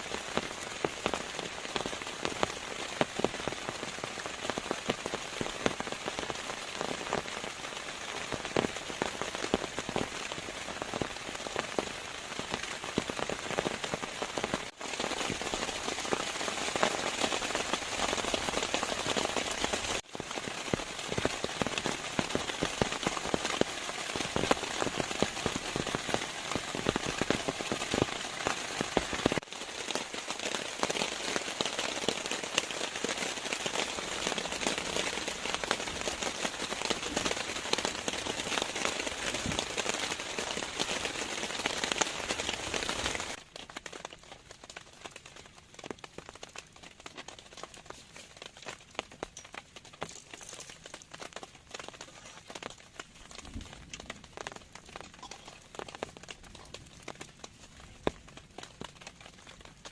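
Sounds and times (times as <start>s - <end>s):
steady rain with drop impacts: 0.0s - 59.9s.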